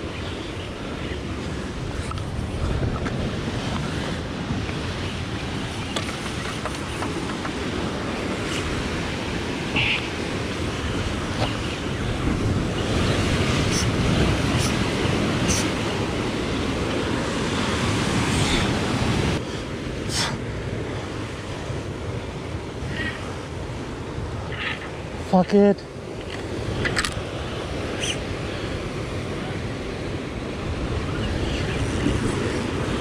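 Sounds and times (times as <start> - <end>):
wind buffeting microphone: 0.0 - 25.3, 26.0 - 33.0.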